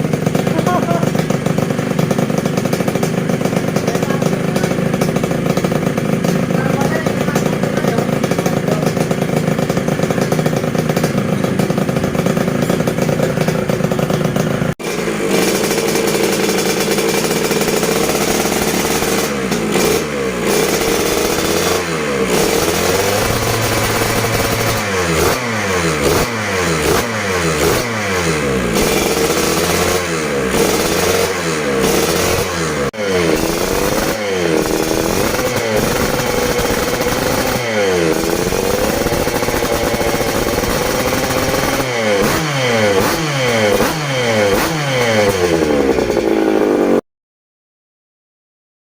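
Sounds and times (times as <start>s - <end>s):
scooter engine revving: 0.0s - 47.0s.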